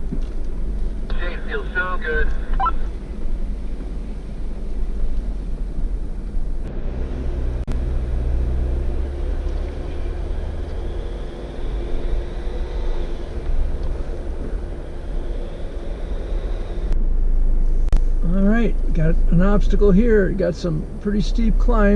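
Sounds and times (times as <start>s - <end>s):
off-road vehicle engine running: 0.0s - 21.9s.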